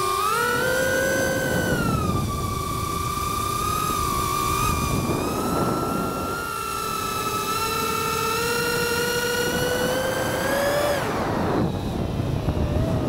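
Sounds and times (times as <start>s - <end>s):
low rush of wind: 0.0s - 13.0s
quadcopter motors whining: 0.0s - 13.0s.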